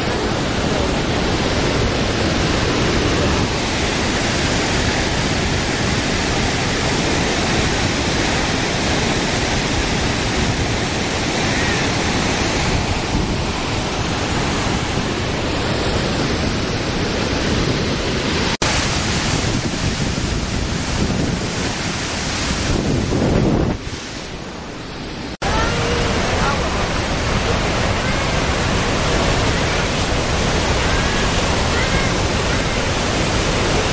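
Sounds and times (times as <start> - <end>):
waterfall rushing: 0.0 - 33.9
wind on microphone: 0.0 - 33.9.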